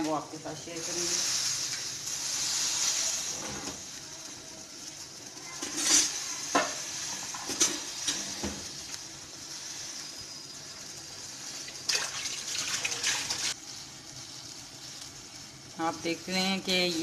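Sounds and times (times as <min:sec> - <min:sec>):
water boiling in a pot: 0:00.0 - 0:17.0.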